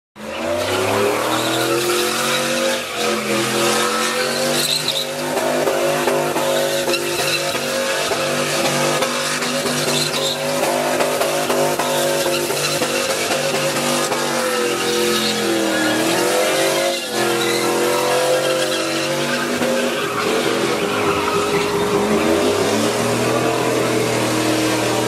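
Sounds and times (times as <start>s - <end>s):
pickup engine revving: 0.2s - 25.0s
tyres screeching: 0.2s - 25.0s.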